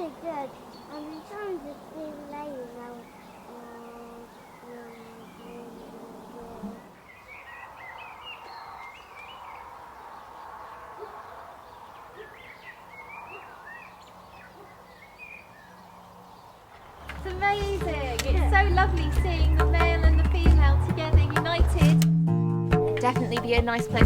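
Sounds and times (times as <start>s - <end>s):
birds twittering: 0.0s - 21.8s
faint steady background noise: 0.0s - 22.0s.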